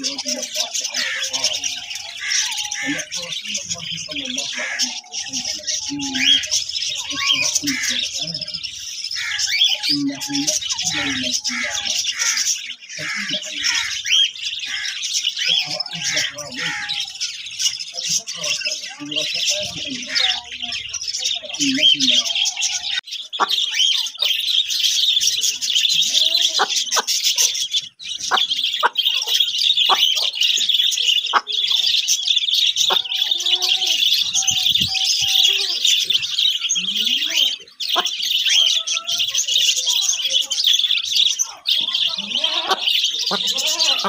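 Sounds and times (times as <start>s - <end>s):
lower bird calls: 0.0s - 44.0s
small birds chirping chorus: 0.0s - 44.0s.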